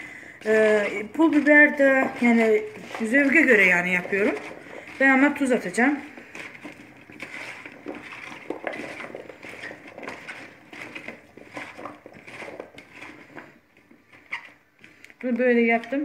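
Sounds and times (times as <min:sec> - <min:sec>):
potato cubes clacking in plastic bowl: 0:00.3 - 0:16.0.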